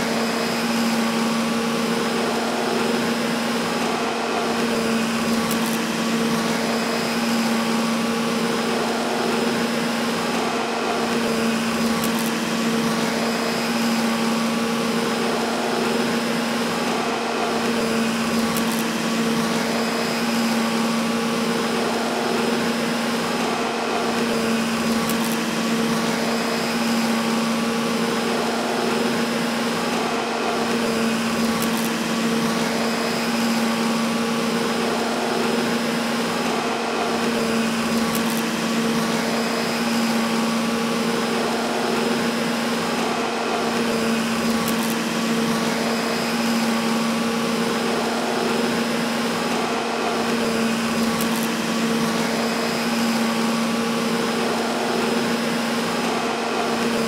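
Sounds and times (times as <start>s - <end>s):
vacuum cleaner motor running: 0.0s - 57.0s.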